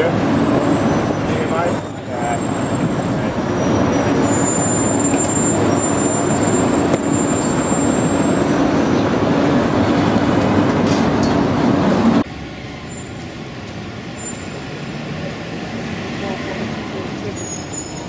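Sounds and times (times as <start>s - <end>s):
street traffic: 0.0s - 18.0s
subway train rumble: 0.0s - 18.0s.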